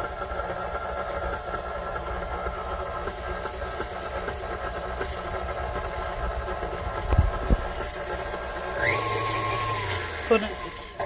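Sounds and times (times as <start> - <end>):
stand mixer motor humming: 0.0 - 11.0.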